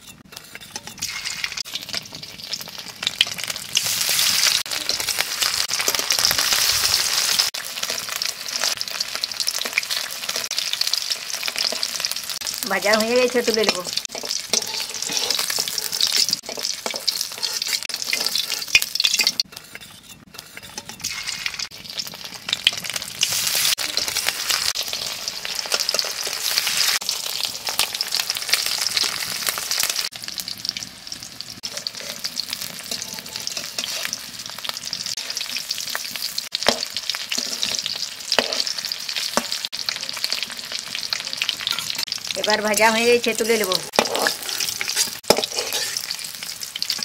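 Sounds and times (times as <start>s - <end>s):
metal spatula scraping a pan: 0.0s - 2.7s, 3.3s - 8.9s, 9.5s - 12.6s, 13.6s - 27.0s, 31.6s - 47.0s
food sizzling in oil: 0.0s - 47.0s.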